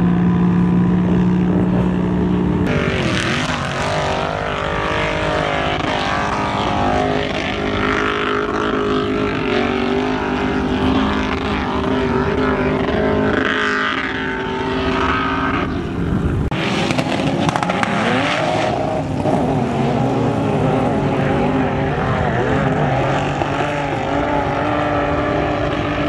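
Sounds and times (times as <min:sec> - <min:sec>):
off-road engines revving: 0:00.0 - 0:26.0.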